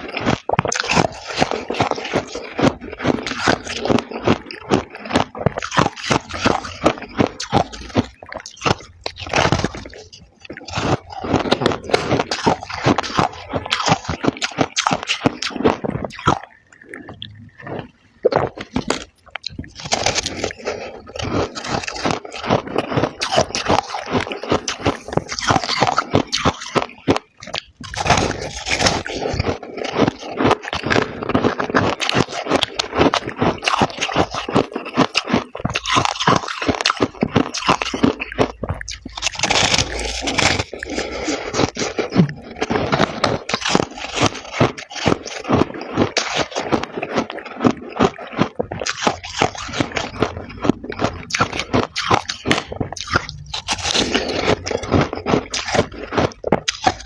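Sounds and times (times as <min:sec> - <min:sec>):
frost being chewed: 0:00.0 - 0:57.0.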